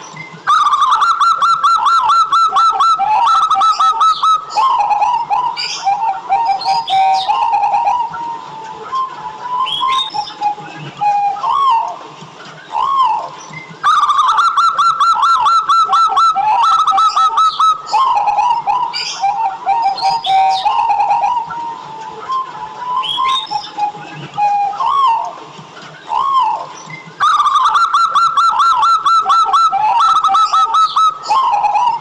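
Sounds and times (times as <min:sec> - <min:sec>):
doves cooing: 0:00.0 - 0:32.0
small birds chirping: 0:00.0 - 0:32.0.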